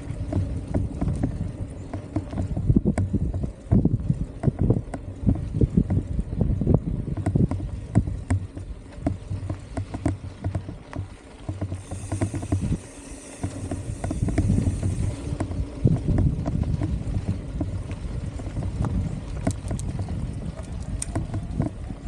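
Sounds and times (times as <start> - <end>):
bike knocking and rattling: 0.0 - 22.0
wind rumble on microphone: 0.0 - 22.0.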